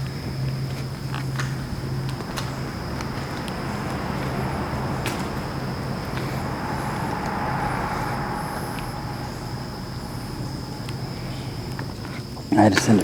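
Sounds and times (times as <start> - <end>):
steady high whine: 0.0 - 13.0
vehicle passing on road: 0.0 - 13.0.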